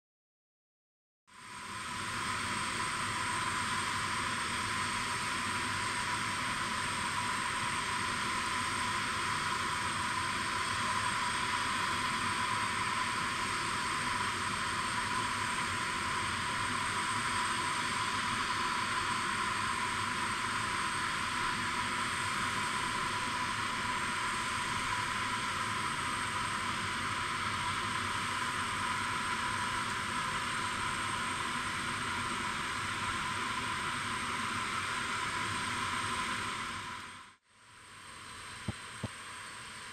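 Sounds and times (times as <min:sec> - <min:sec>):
auxiliary power unit turbine whine: 0:01.3 - 0:39.9.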